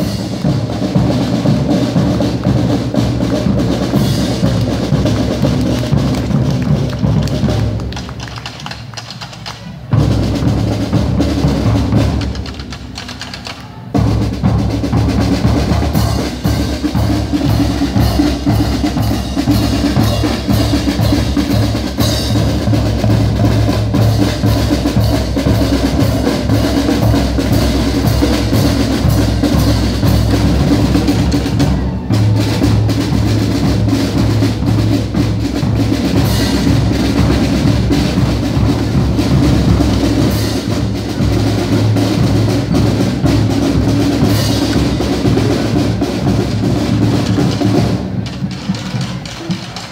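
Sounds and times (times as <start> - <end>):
snare and bass drums: 0.0 - 49.9.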